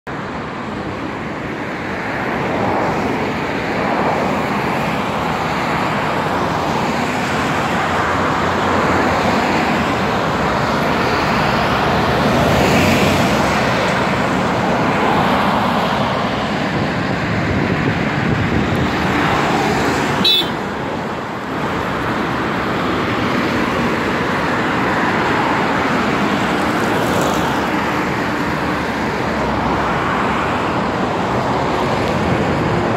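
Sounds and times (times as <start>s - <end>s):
cars and lorries passing: 0.1s - 32.9s.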